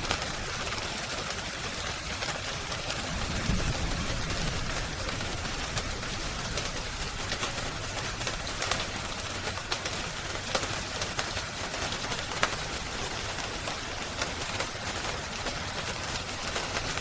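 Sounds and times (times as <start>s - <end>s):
rain hissing: 0.0s - 17.0s
wood fire crackling: 0.0s - 17.0s.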